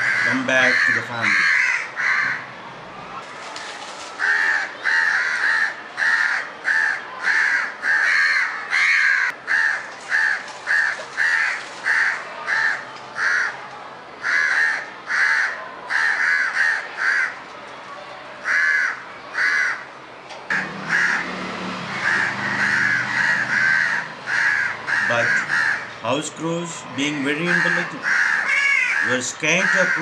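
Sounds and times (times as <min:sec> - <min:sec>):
crows cawing: 0:00.0 - 0:02.5, 0:04.2 - 0:13.6, 0:14.2 - 0:17.4, 0:18.4 - 0:19.9, 0:20.5 - 0:26.0, 0:27.3 - 0:30.0.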